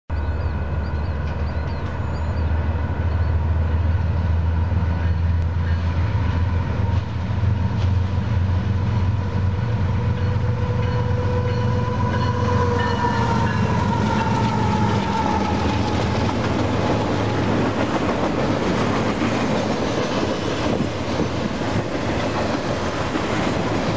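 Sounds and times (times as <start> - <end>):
diesel locomotive engine drone: 0.1 - 23.9.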